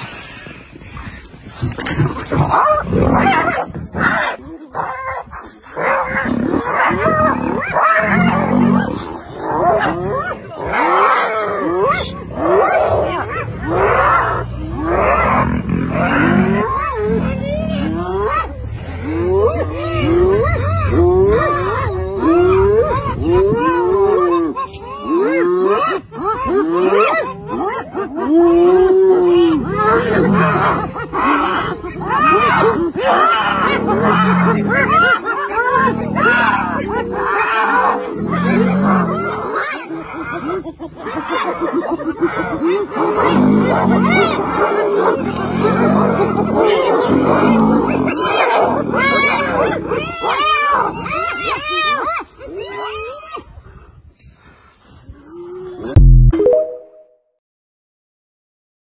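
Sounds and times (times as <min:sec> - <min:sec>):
hyenas yelping and giggling: 0:00.0 - 0:53.6
deep lion growl: 0:01.8 - 0:24.5, 0:25.1 - 0:51.6.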